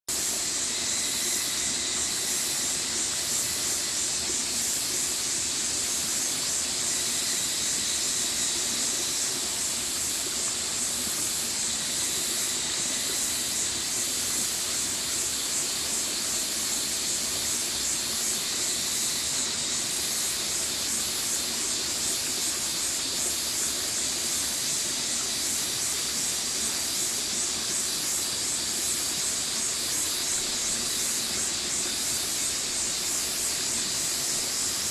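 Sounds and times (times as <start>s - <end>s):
stream water flowing: 0.1s - 34.9s.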